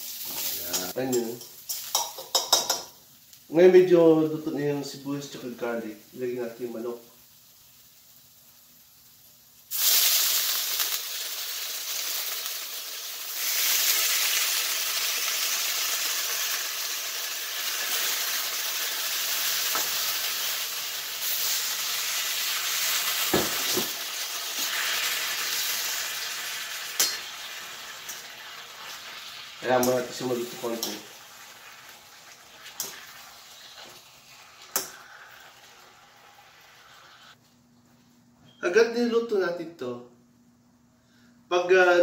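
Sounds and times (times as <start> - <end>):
chicken sizzling in hot oil: 0.0 - 3.5, 5.0 - 37.4.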